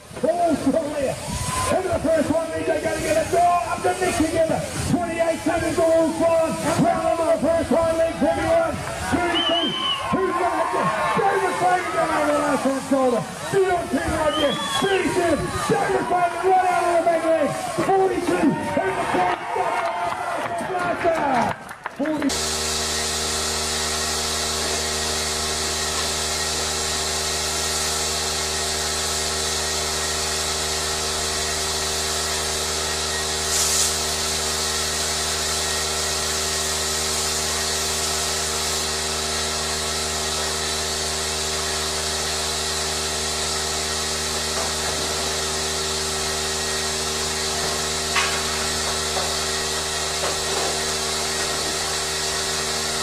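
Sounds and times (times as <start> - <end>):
burst of hiss: 0.0 - 18.8, 22.3 - 53.0
machine motor humming and hissing: 0.0 - 18.8, 22.2 - 53.0.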